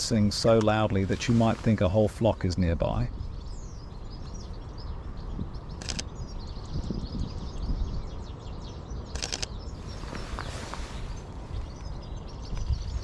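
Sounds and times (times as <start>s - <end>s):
finches twittering: 0.1s - 13.0s.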